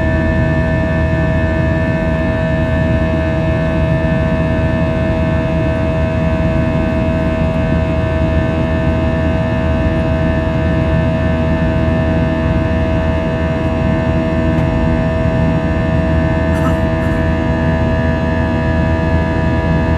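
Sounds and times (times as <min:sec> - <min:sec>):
jet engines inside cabin: 0:00.0 - 0:19.9.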